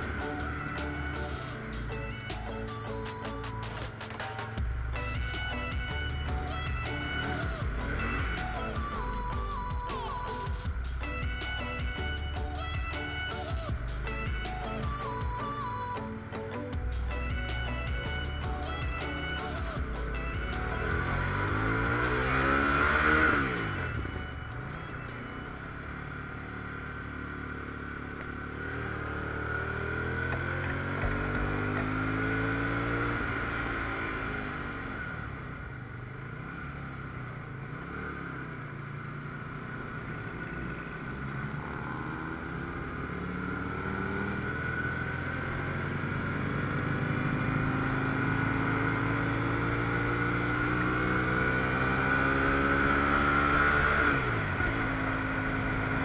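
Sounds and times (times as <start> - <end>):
motorcycle engine accelerating: 0.0 - 15.7, 16.5 - 56.0.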